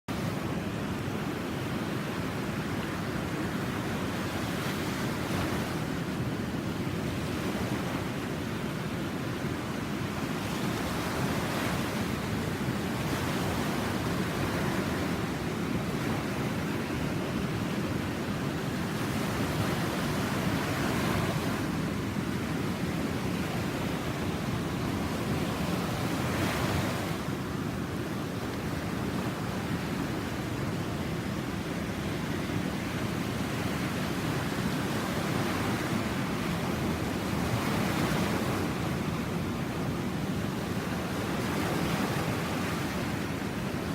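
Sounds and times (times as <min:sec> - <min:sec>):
ocean waves breaking: 0:00.1 - 0:43.9
wind rumbling on microphone: 0:00.1 - 0:43.9.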